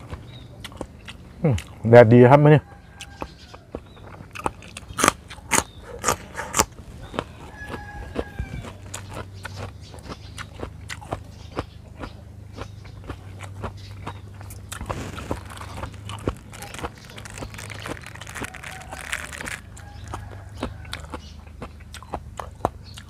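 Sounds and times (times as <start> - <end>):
chewing crunchy vegetable: 0.0 - 23.0
low steady hum: 0.0 - 23.0.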